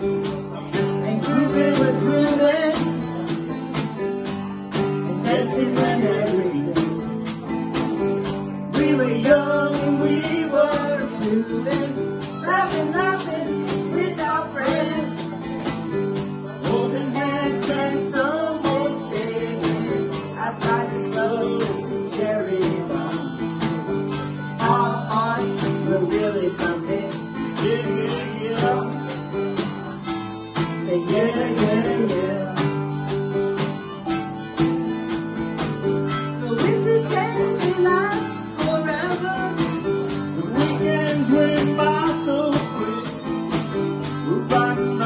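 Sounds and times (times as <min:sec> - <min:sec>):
acoustic guitar strumming: 0:00.0 - 0:45.0
woman singing: 0:00.7 - 0:03.5, 0:04.7 - 0:07.1, 0:08.5 - 0:29.9, 0:30.5 - 0:32.9, 0:36.3 - 0:45.0.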